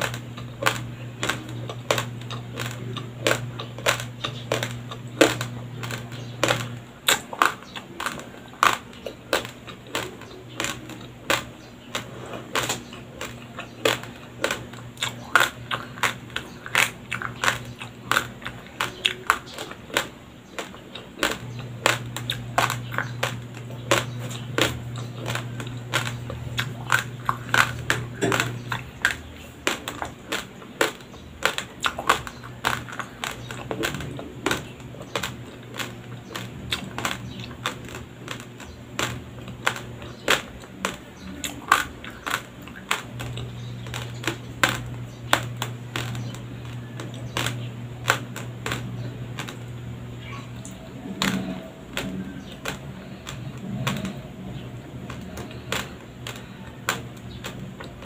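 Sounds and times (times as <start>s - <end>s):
low steady hum: 0.0s - 58.0s
uncooked rice being chewed: 0.0s - 58.0s.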